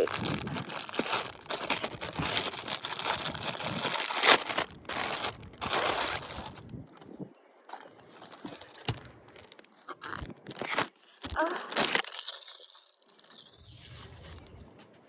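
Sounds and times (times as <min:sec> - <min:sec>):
plastic bags crinkling: 0:00.0 - 0:14.6.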